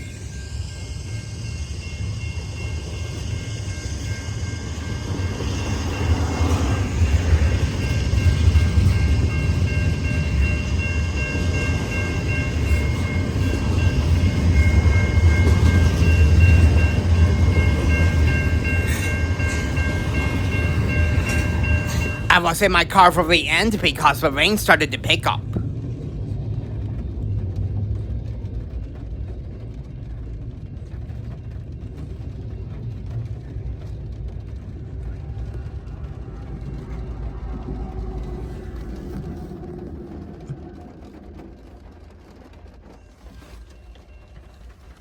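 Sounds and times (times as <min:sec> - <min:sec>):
freight train rumbling on rails: 0:00.0 - 0:45.0.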